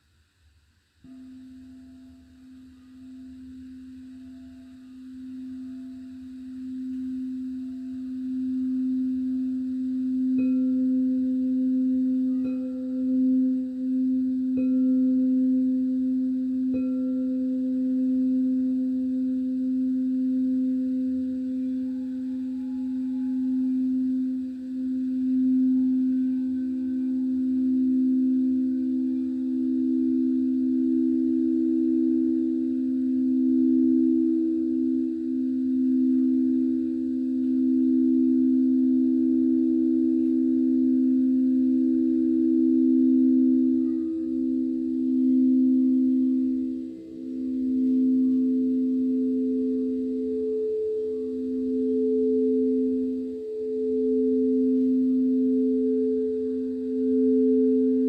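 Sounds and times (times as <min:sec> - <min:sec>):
singing bowl hum: 0:00.0 - 0:58.0
singing bowl strikes ringing: 0:01.0 - 0:58.0.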